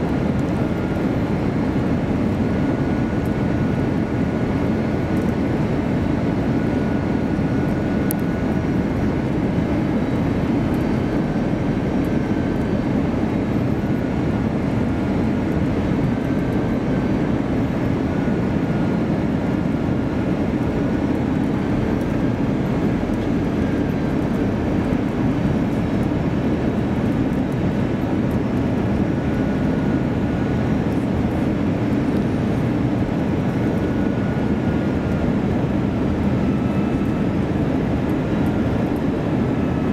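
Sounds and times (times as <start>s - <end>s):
airliner cabin engine and airflow noise: 0.0s - 39.9s.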